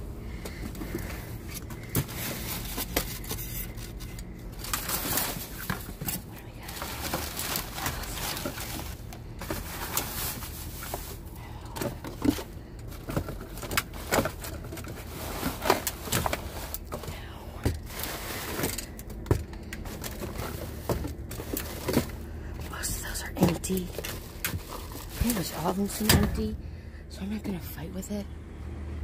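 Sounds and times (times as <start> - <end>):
cardboard boxes and plastic wrap rustling: 0.4 - 26.6.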